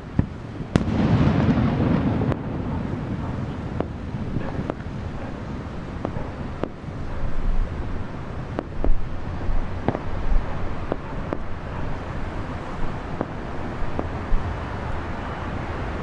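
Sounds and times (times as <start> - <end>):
fireworks bangs: 0.0 - 15.6
wind on microphone: 0.0 - 16.0.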